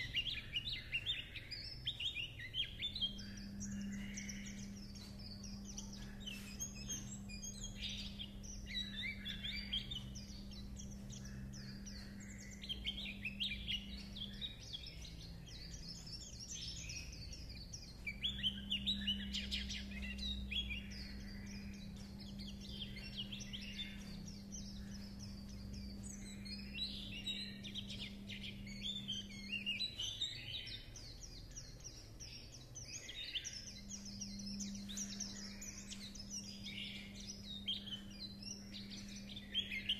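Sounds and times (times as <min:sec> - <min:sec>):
bird twittering song: 0:00.0 - 0:39.9
low steady hum: 0:00.0 - 0:39.9.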